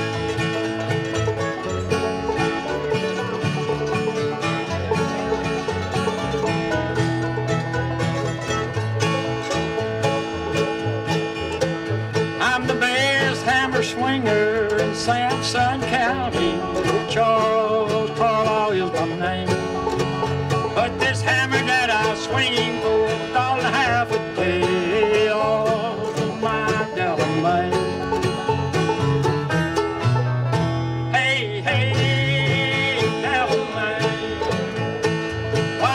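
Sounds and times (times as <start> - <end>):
acoustic guitar: 0.0 - 35.9
banjo: 0.0 - 35.9
mandolin: 0.0 - 35.9
upright bass: 0.0 - 35.9.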